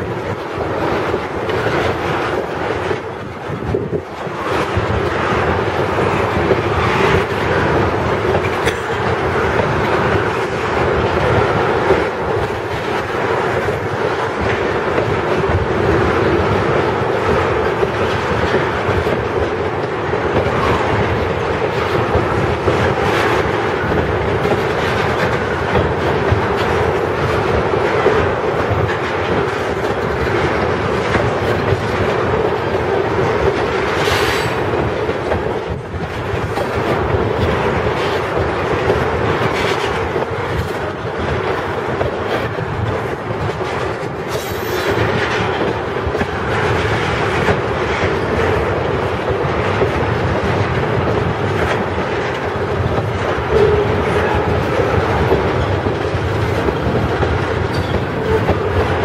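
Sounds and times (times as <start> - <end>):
train wheels rumbling on rail: 0.0 - 59.0
wheels clacking over rail joints: 0.0 - 59.0.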